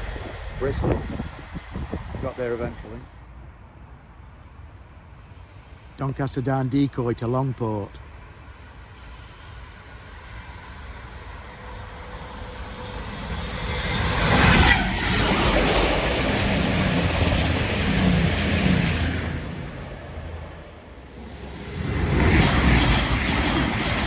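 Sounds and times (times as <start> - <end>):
diesel locomotive engines passing: 0.0 - 24.0.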